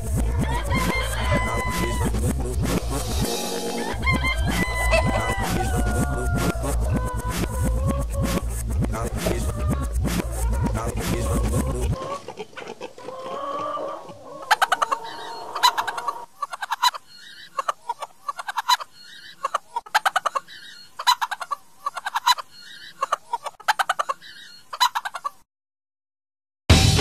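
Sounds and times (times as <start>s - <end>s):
chickens clucking: 0.0s - 25.5s.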